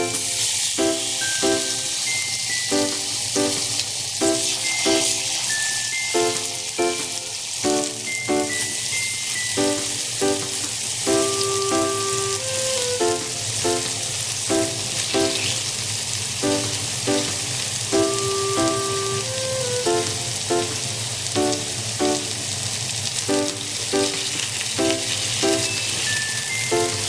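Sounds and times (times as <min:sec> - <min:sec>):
background music: 0:00.0 - 0:15.4, 0:16.4 - 0:22.6, 0:23.3 - 0:27.0
chicken sizzling in frying pan: 0:00.0 - 0:27.0.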